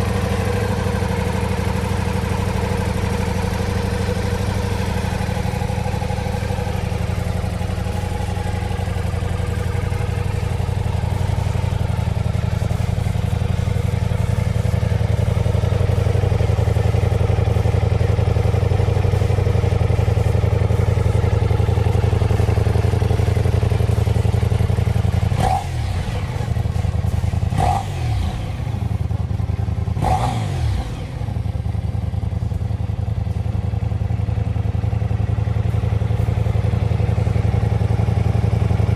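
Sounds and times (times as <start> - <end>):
motorcycle throttle blips: 0.0 - 33.8
motorcycle engine idling: 0.0 - 38.9.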